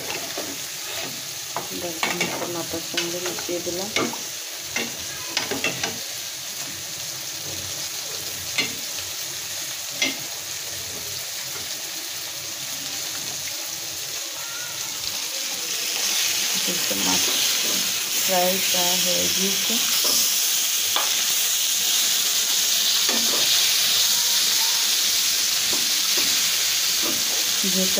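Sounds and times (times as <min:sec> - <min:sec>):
food sizzling in oil: 0:00.0 - 0:27.9.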